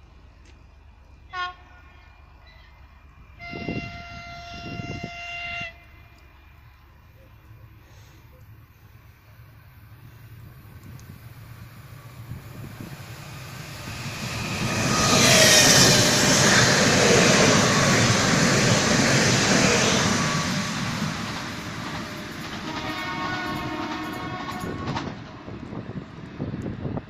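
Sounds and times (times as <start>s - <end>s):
electric train passing at speed: 0.0s - 27.0s.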